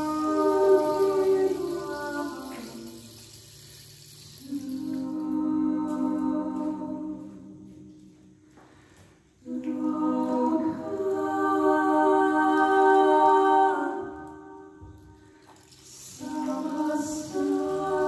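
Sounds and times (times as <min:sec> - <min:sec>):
women singing held tones in harmony: 0:00.0 - 0:03.4, 0:04.3 - 0:08.2, 0:09.4 - 0:18.0.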